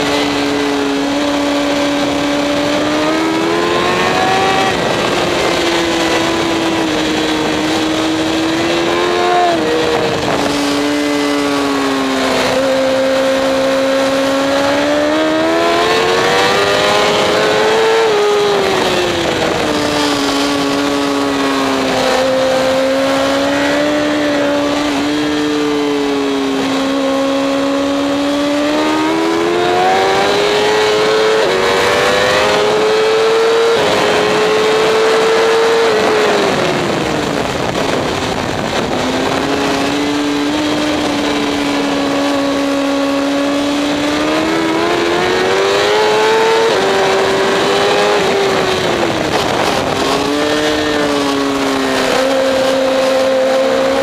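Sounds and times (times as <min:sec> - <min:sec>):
motorcycle engine running hard: 0:00.0 - 0:54.0
wind rush: 0:00.0 - 0:54.0.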